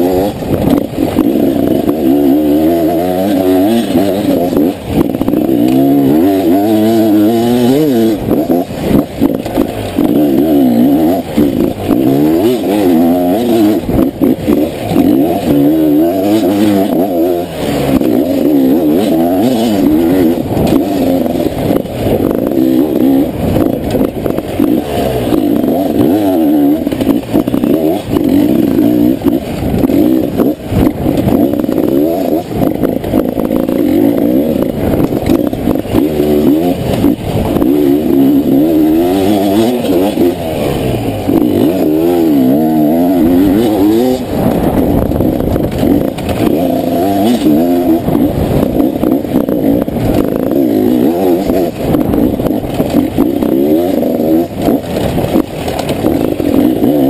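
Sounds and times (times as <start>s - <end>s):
motorcycle engine revving: 0.0s - 57.0s
motorcycle knocking and clattering: 0.0s - 57.0s.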